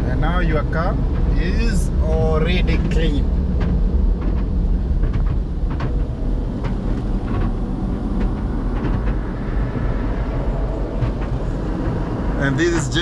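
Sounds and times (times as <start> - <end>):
car wash machinery rumble: 0.0 - 13.0.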